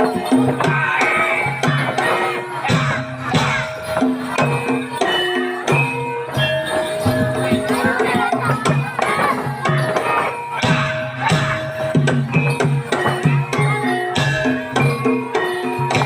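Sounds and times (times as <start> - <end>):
drum strokes: 0.0 - 16.0
metal-keyed percussion melody: 0.0 - 16.0.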